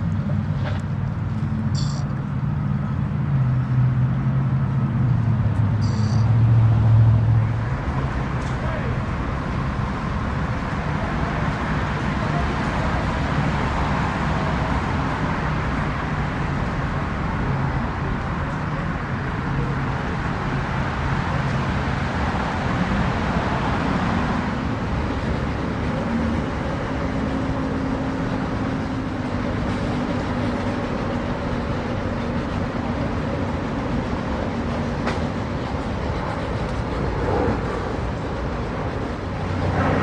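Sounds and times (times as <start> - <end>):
boat engines running: 0.0 - 40.0.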